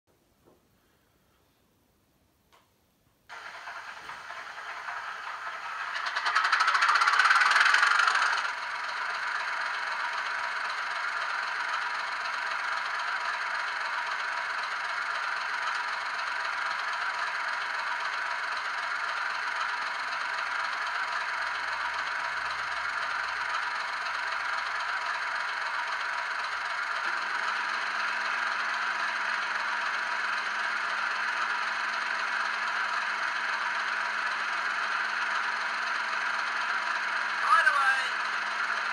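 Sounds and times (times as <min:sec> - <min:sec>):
low hum: 0:03.3 - 0:37.3
model locomotive engine sound: 0:03.3 - 0:38.9.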